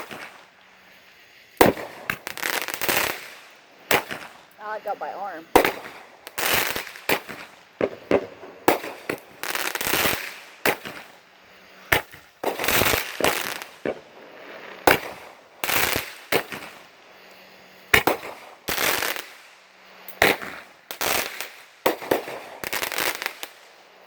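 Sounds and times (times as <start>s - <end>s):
firework bangs: 0.0s - 0.5s, 1.6s - 11.2s, 11.8s - 16.9s, 17.9s - 19.5s, 20.2s - 23.7s
firework crackling: 0.0s - 24.0s.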